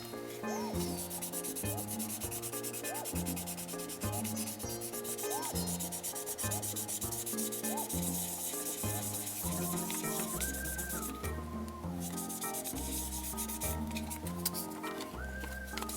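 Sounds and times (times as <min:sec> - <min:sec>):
background music with beat: 0:00.0 - 0:15.9
sanding pad rubbing plastic: 0:00.5 - 0:15.9.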